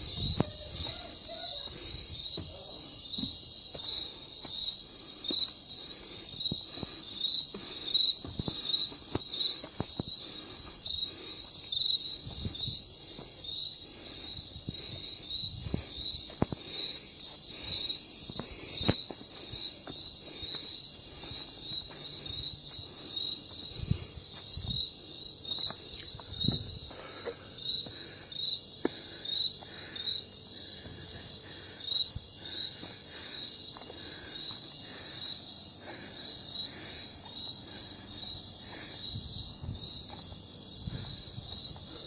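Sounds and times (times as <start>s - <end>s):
crickets trilling and chirping: 0.0s - 42.0s.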